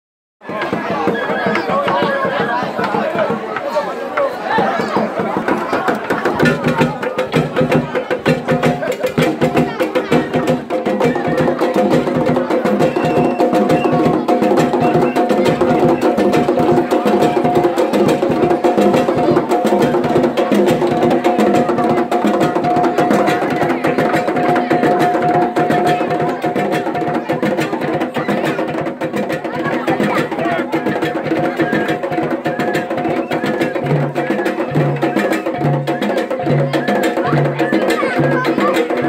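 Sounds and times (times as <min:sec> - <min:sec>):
drums and percussion dance music: 0:00.4 - 0:39.0.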